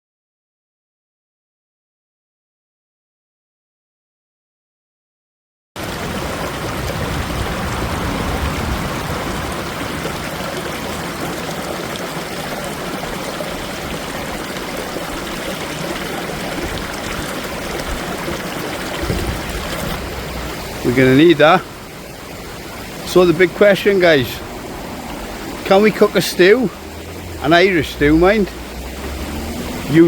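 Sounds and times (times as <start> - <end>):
steady rushing water: 5.8 - 30.0.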